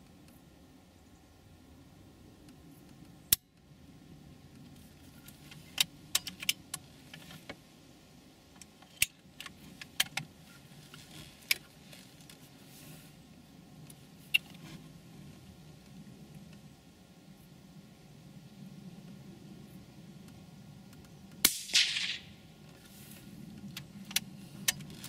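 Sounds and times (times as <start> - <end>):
faint low background noise: 0.0 - 25.0.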